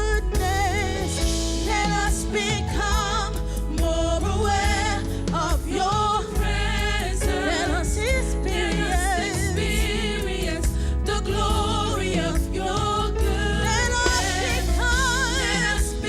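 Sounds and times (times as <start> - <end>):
gospel music with singers and band: 0.0 - 16.0.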